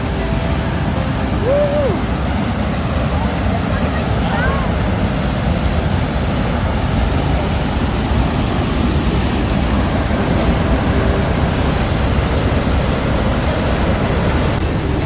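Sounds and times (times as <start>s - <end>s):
waterfall and rushing river: 0.0s - 15.0s.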